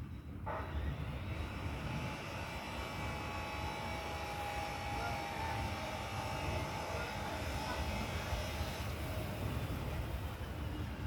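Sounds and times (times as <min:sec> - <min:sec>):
airplane flying over: 0:00.0 - 0:11.0.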